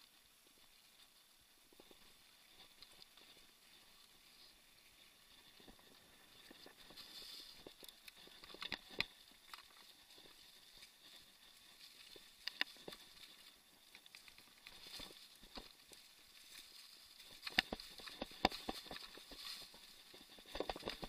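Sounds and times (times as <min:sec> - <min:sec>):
bike tyres on dirt: 0:00.0 - 0:21.0.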